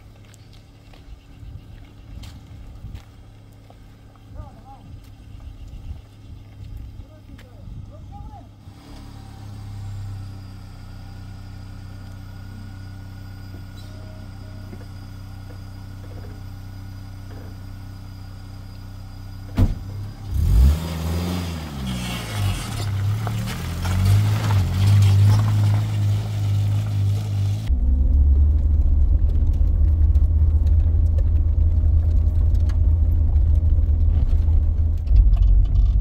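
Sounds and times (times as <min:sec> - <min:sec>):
truck engine idling and revving: 0:00.0 - 0:36.0.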